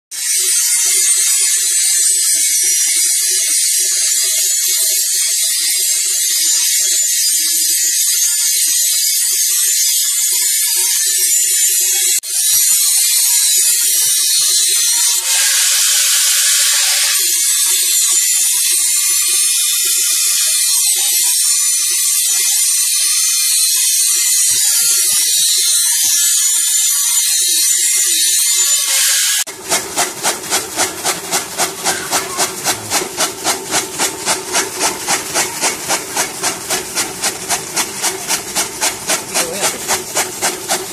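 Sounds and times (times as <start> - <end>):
angle grinder grinding metal: 0.1 - 40.9.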